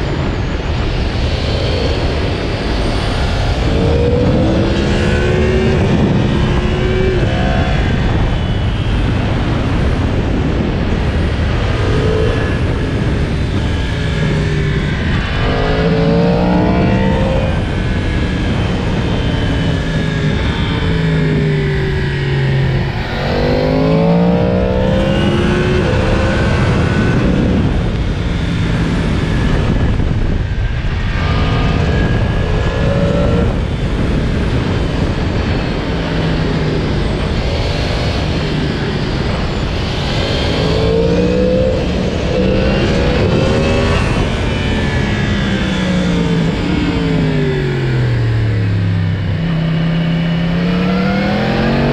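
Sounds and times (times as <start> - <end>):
constant low noise: 0.0 - 51.9
motorcycle engine revving: 0.0 - 51.9.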